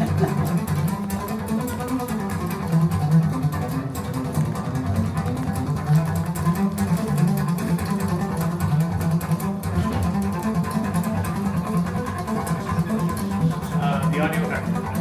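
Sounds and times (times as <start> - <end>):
deep bowed strings: 0.0 - 15.0.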